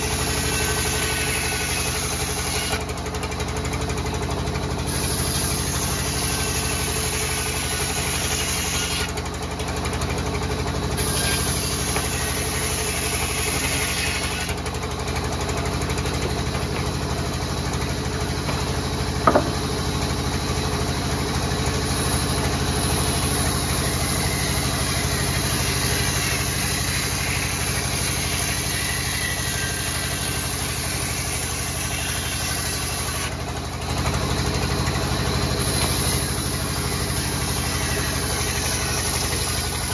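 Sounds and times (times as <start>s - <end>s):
band saw mill droning: 0.0s - 39.9s.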